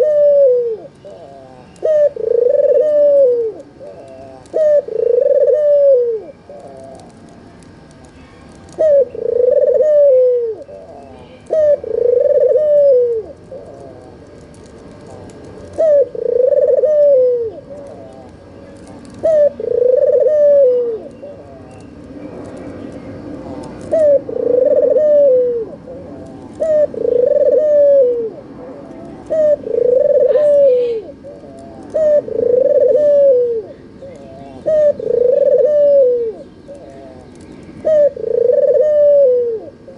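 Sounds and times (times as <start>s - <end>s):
dove cooing: 0.0s - 7.3s, 8.6s - 39.9s.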